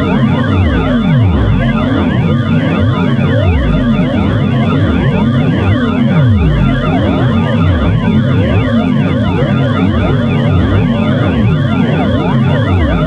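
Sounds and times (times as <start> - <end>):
electronic wailing siren: 0.0 - 13.0.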